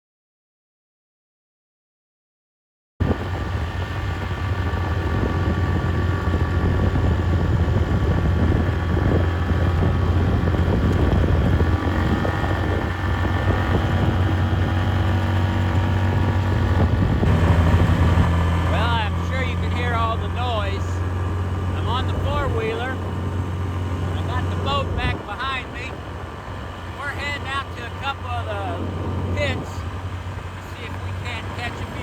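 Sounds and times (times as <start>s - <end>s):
atv engine running: 3.0s - 32.0s.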